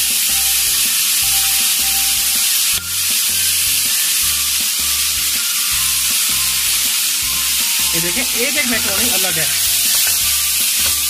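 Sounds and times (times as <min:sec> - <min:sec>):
background music with bass: 0:00.0 - 0:11.0
pasta sizzling in oil: 0:00.0 - 0:11.0
spatula stirring in pan: 0:00.2 - 0:11.0.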